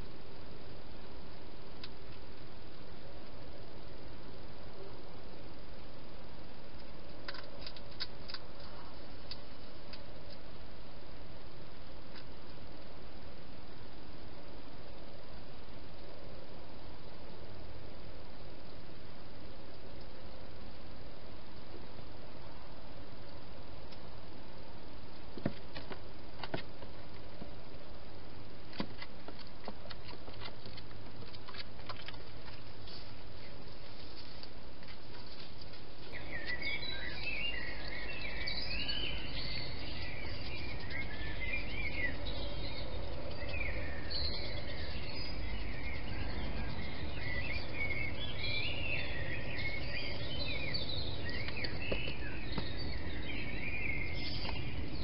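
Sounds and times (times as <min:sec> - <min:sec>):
microphone hiss: 0:00.0 - 0:55.0
songbirds chorus: 0:00.0 - 0:55.0.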